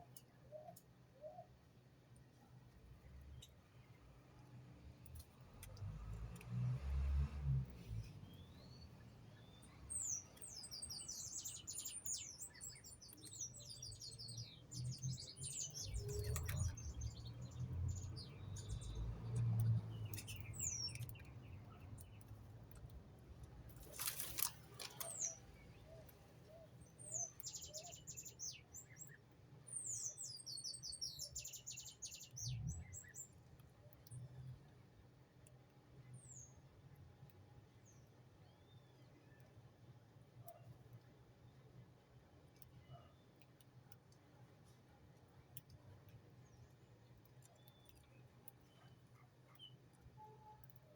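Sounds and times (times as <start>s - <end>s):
songbirds chirping: 7.7s - 50.9s.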